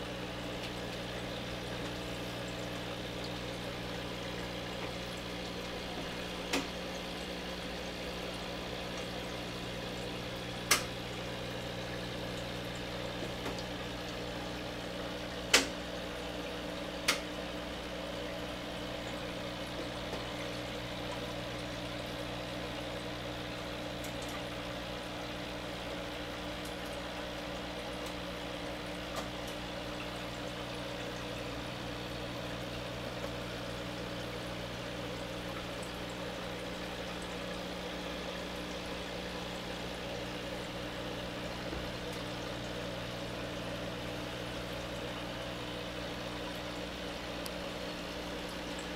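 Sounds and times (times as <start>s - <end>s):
aquarium air bubbler fizzing: 0.0s - 48.9s.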